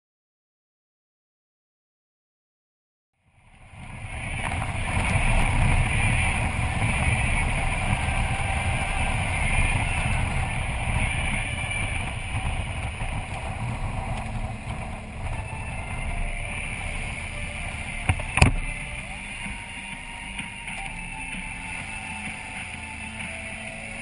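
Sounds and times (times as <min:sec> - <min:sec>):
motorcycle engine drone: 0:03.2 - 0:24.0
wind and road noise: 0:03.2 - 0:24.0.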